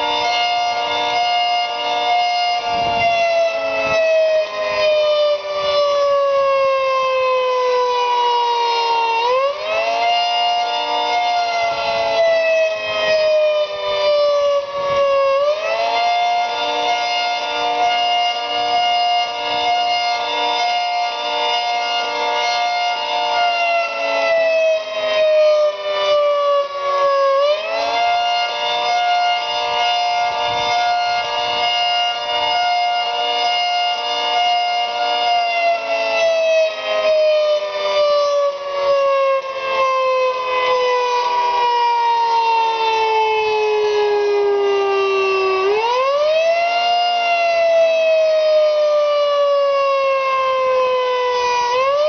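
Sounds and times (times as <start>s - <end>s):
warning siren wailing: 0.0s - 52.0s.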